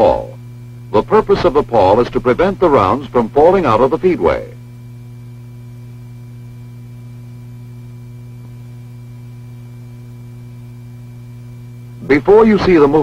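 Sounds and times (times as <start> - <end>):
low electrical hum: 0.0 - 13.0
thin high whine: 0.0 - 13.0.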